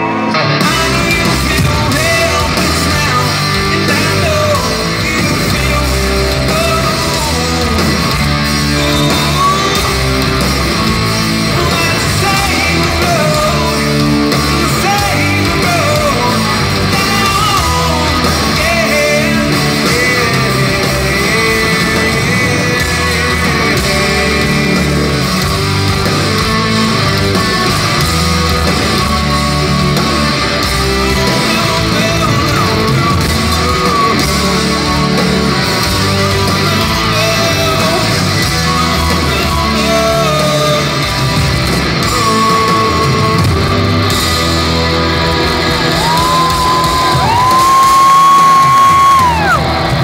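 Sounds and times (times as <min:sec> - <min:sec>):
lead vocals singing: 0:00.0 - 0:28.2, 0:30.4 - 0:44.5
live rock band playing: 0:00.0 - 0:50.0.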